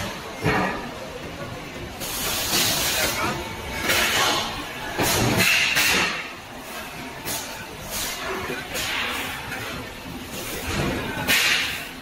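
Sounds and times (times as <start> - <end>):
factory machinery: 0.0 - 12.0.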